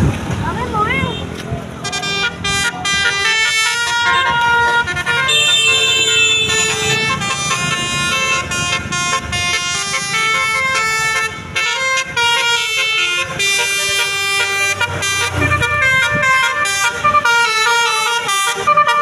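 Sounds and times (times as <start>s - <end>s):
multi-tone bus horn melody: 1.1s - 19.0s.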